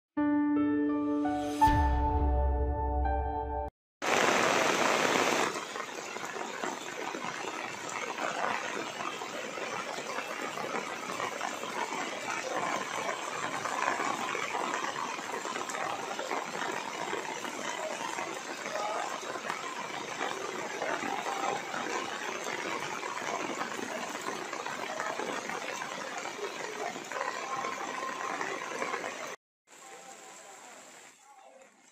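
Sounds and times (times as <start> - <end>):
rain falling on stone pavement: 4.0 - 31.9.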